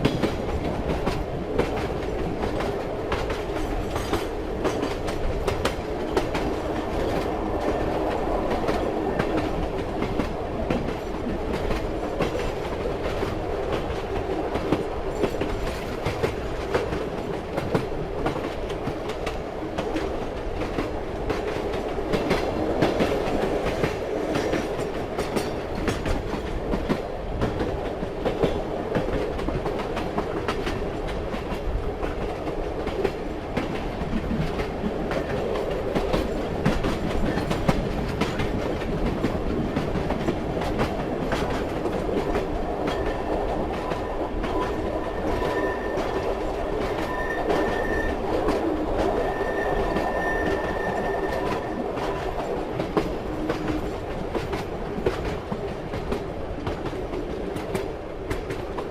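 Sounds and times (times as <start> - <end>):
train wheels clickety-clack: 0.0 - 58.9.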